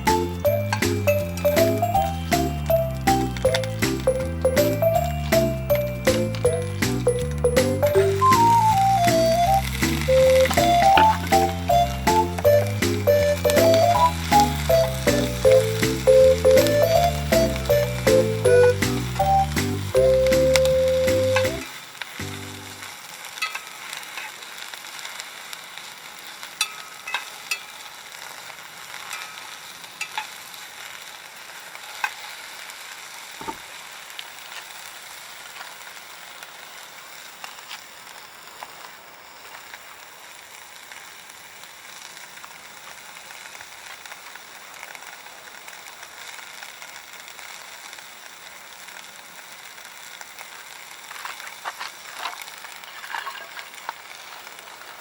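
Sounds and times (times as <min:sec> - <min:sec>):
firewood popping and crackling: 0:00.0 - 0:55.0
food sizzling: 0:00.0 - 0:55.0.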